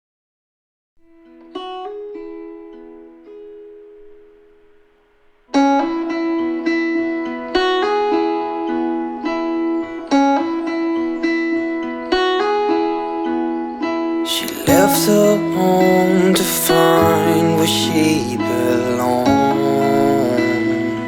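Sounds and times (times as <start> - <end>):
plucked guitar music: 1.0 - 21.0.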